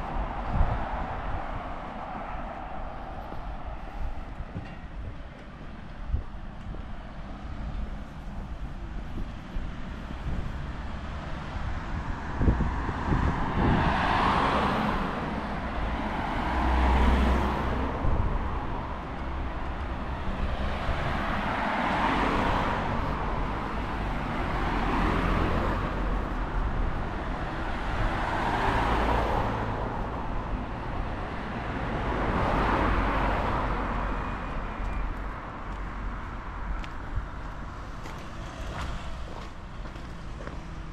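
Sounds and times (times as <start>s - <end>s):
cars passing: 0.0s - 40.9s
low traffic rumble: 0.0s - 40.9s.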